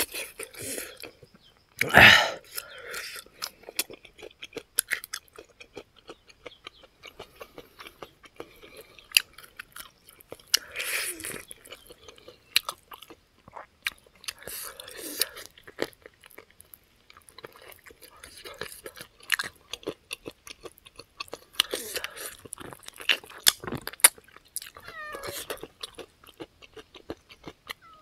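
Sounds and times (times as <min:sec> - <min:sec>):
chewing and biting: 0:00.0 - 0:28.0.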